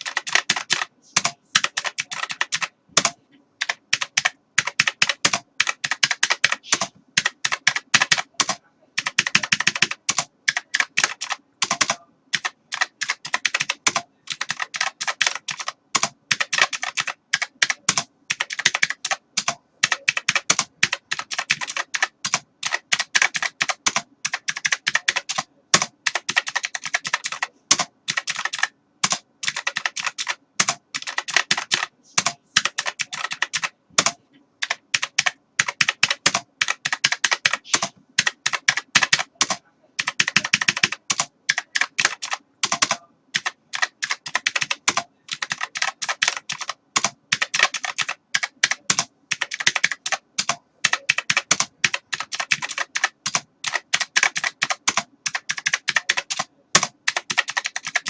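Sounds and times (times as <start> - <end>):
typing on computer keyboard: 0.0 - 58.0.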